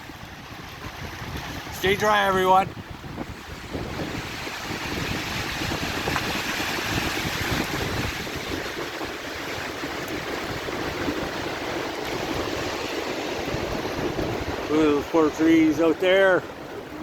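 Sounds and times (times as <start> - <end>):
wind buffeting microphone: 0.0 - 17.0
wind gusting through trees: 0.0 - 17.0.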